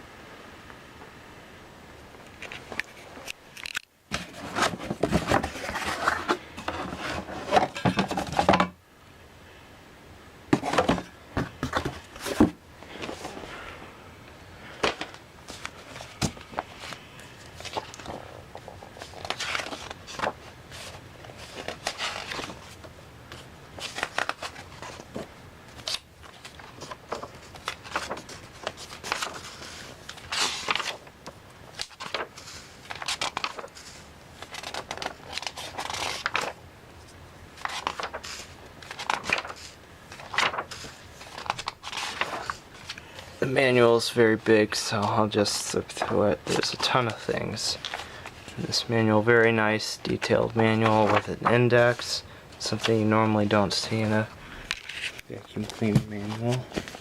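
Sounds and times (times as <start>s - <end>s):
rustling and crinkling: 2.2s - 8.8s, 10.5s - 13.9s, 14.6s - 49.2s, 50.0s - 57.0s.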